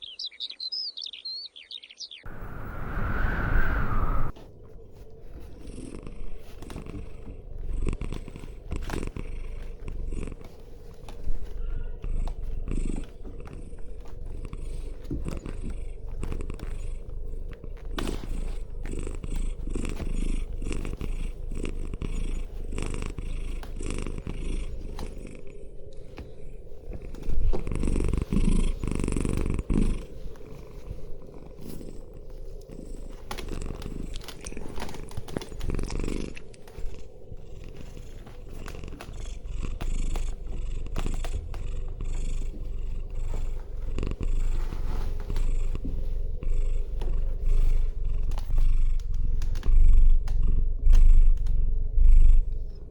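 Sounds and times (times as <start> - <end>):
cat purring: 2.2 - 52.9.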